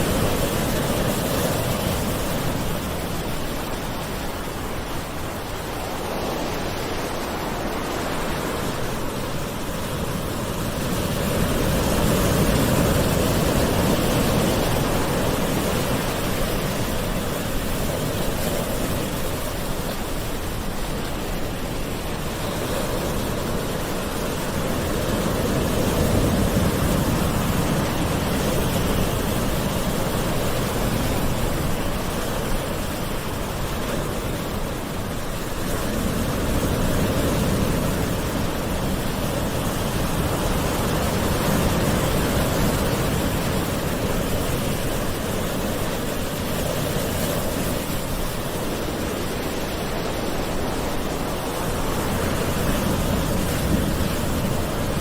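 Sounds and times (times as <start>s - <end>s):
gentle ocean waves: 0.0s - 55.0s.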